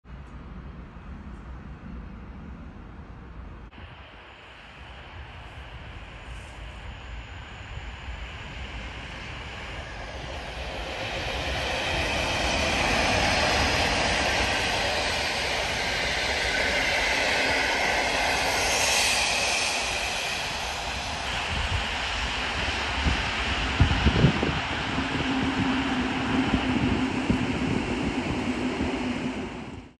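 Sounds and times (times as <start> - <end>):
train rumbling past on rails: 0.4 - 30.0.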